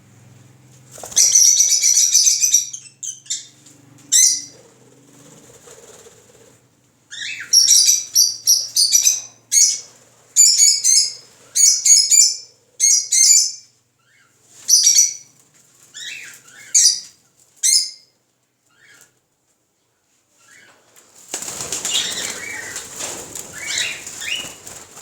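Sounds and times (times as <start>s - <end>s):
small birds chirping: 0.9s - 6.4s, 7.0s - 19.2s, 21.5s - 24.8s.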